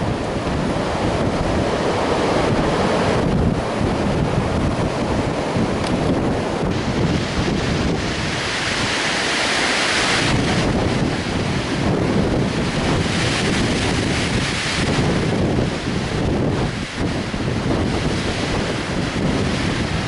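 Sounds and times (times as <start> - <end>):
gusty wind through trees: 0.0 - 20.0
wind buffeting microphone: 0.0 - 20.0.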